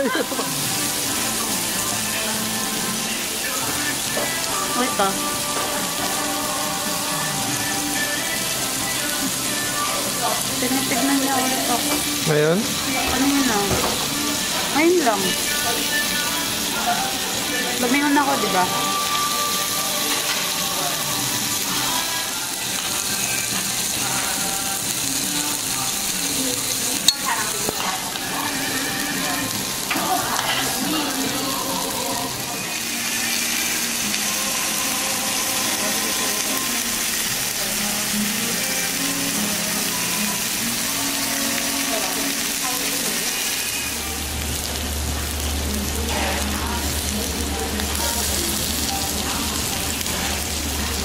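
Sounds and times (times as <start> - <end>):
meat sizzling on a grill: 0.0 - 51.0.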